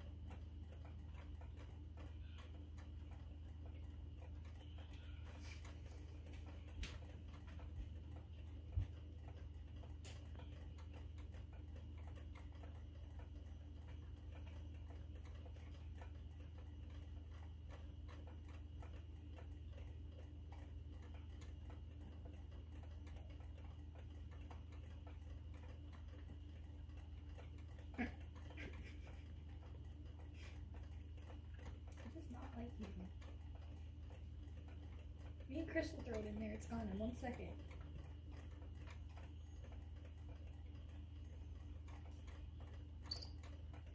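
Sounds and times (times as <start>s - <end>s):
faint dense ticking: 0.0s - 43.9s.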